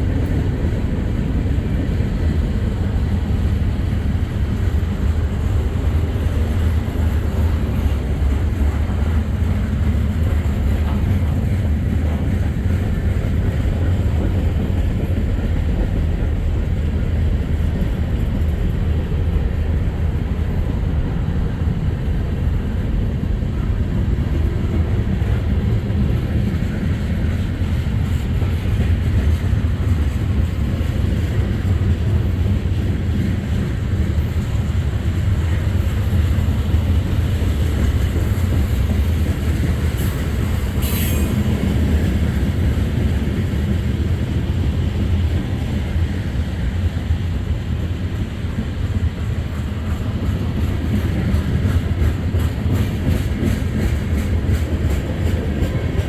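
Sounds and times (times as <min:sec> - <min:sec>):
freight train rumbling on rails: 0:00.0 - 0:56.0.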